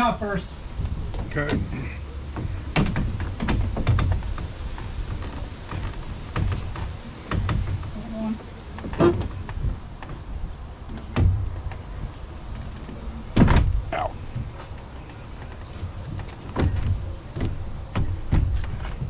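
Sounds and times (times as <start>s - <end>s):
thumps and knocks on window frame: 0.8s - 19.0s.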